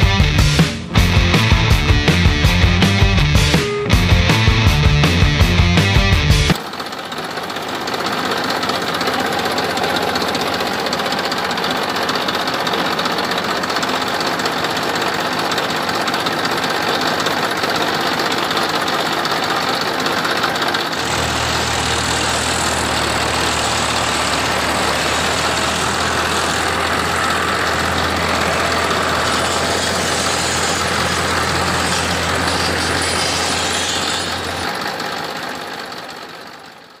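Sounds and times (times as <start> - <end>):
small motor rattling: 6.5 - 37.0.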